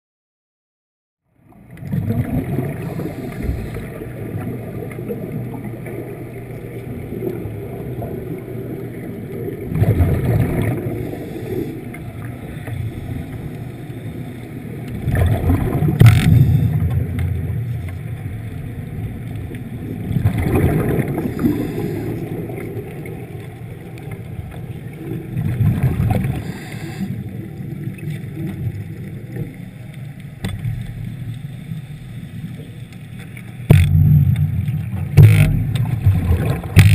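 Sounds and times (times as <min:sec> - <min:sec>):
low underwater rumble: 0:01.3 - 0:36.9
rushing bubbles: 0:01.4 - 0:32.6, 0:33.7 - 0:36.9.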